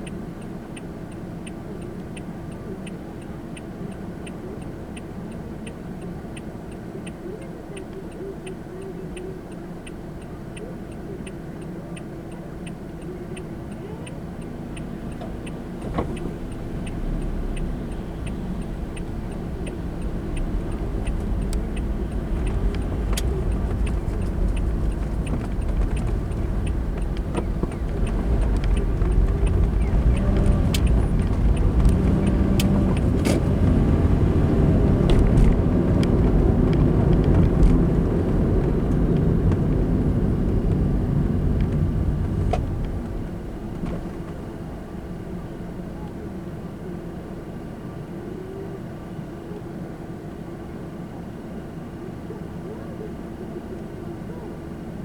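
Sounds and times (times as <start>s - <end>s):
turn signal clicking: 0.0s - 46.2s
car engine and road noise: 0.0s - 55.0s.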